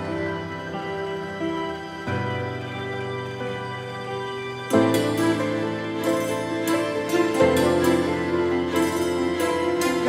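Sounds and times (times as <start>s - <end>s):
slow gentle instrumental music: 0.0s - 10.0s.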